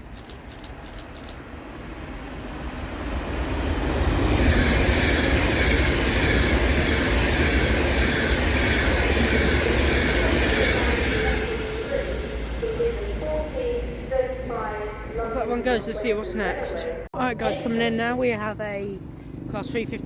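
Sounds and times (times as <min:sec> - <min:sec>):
electric train passing at speed: 0:00.0 - 0:20.0.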